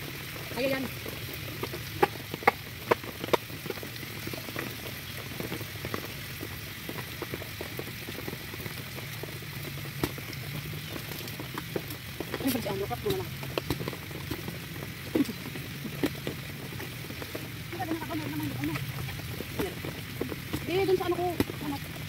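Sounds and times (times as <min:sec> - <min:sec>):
meat sizzling in a frying pan: 0:00.0 - 0:22.0
oil spattering pops: 0:01.0 - 0:22.0.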